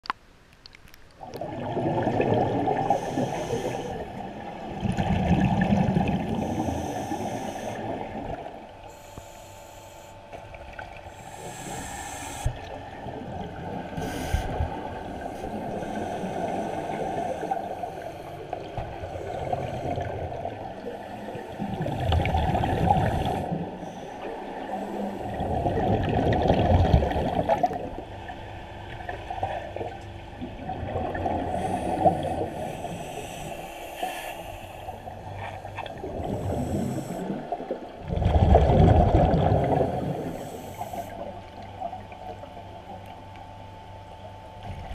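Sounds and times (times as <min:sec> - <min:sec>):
underwater bubbles from exhaled air: 0:01.2 - 0:08.8, 0:10.4 - 0:33.6, 0:34.5 - 0:44.9.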